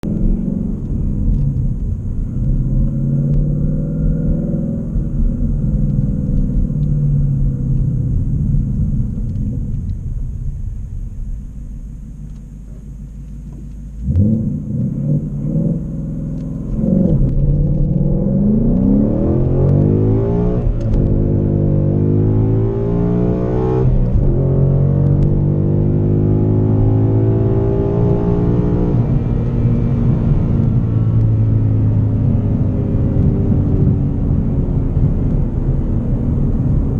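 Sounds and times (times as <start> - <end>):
car engine revving and accelerating: 0.0 - 9.9, 13.4 - 36.9.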